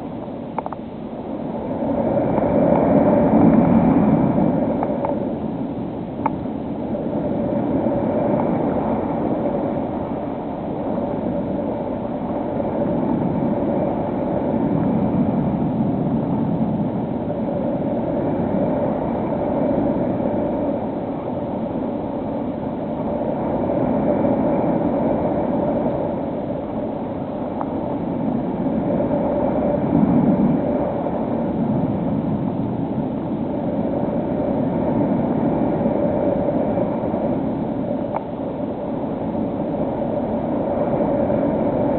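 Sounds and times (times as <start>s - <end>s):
rushing air noise: 0.0s - 41.9s.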